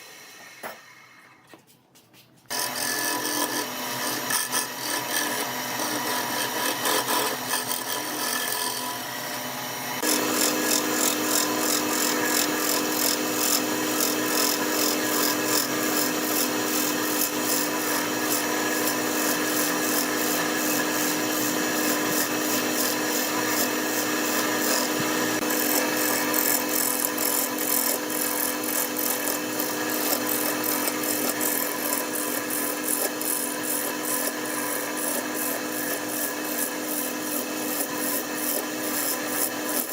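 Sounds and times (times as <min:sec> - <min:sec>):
wood lathe motor hum: 0:00.0 - 0:01.1, 0:02.5 - 0:39.9
tool scraping spinning wood: 0:02.4 - 0:39.9.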